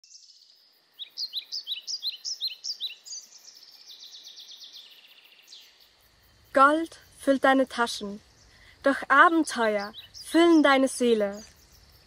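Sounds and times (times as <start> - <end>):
songbird chirping and trilling: 0.0 - 12.0
faint background hiss: 0.1 - 12.0.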